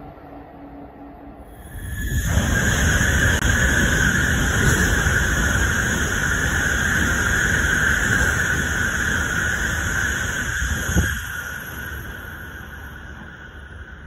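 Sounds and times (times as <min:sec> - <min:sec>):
high-speed train passing: 0:00.0 - 0:14.0.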